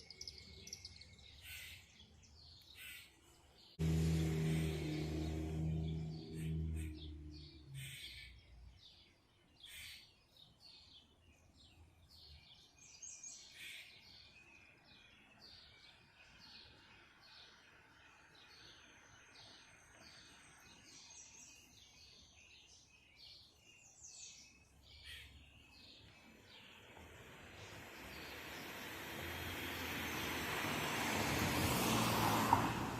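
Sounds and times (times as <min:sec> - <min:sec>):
faint songbirds chirping: 0:00.0 - 0:32.3.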